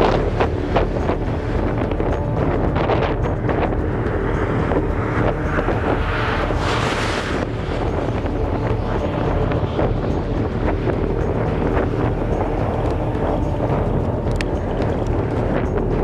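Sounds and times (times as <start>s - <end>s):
hissing wind gust: 0.0s - 16.0s
wind buffeting microphone: 0.0s - 16.0s.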